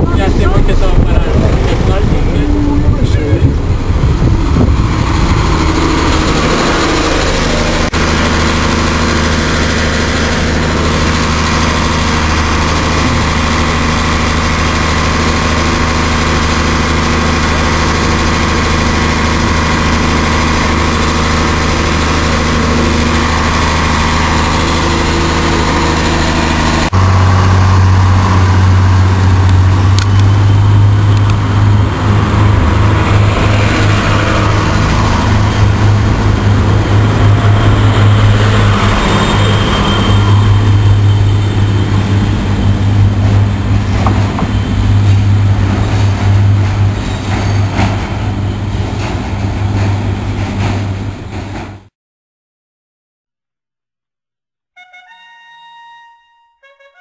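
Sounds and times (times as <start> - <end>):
train engine idling: 0.0 - 51.6.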